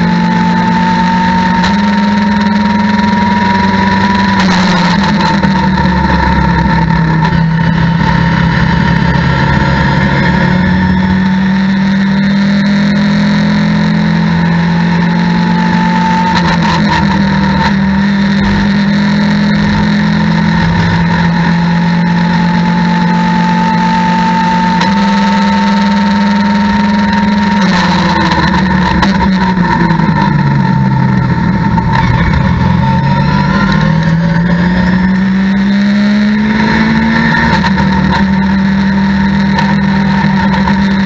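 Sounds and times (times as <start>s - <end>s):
high whine: 0.0s - 41.0s
race car engine drone: 0.0s - 41.0s.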